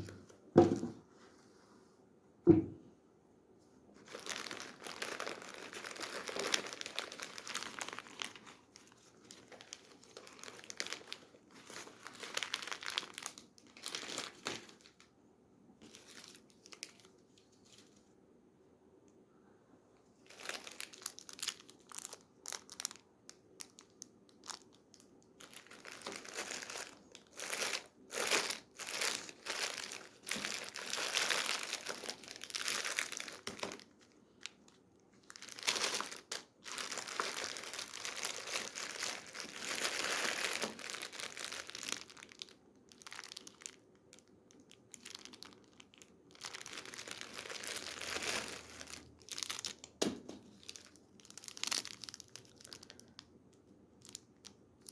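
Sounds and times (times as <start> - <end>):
plastic wrappers crinkling: 0.0 - 0.9, 4.0 - 15.1, 15.8 - 18.1, 20.2 - 54.9.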